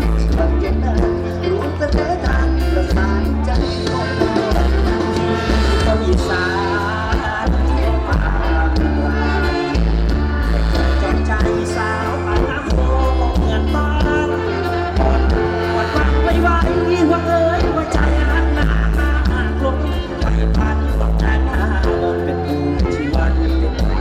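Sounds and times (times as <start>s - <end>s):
heavy bass line: 0.0s - 24.0s
live band music: 0.0s - 24.0s
person singing: 0.0s - 24.0s.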